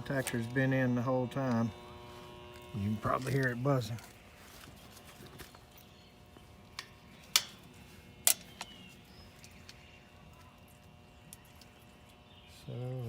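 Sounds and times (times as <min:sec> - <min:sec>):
electrical buzz: 0:00.0 - 0:13.0.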